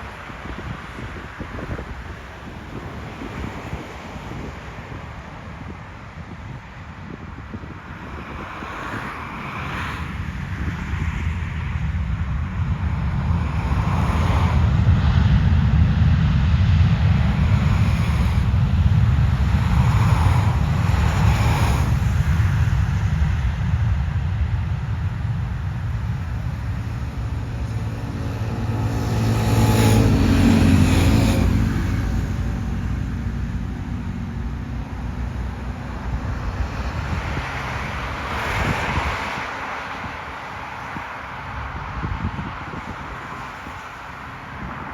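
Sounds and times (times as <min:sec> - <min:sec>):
jet engines rumbling: 0:00.0 - 0:44.9.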